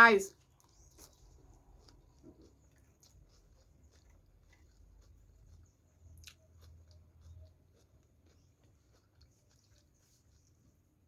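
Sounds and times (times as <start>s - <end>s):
faint chewing of food: 0.3s - 11.0s.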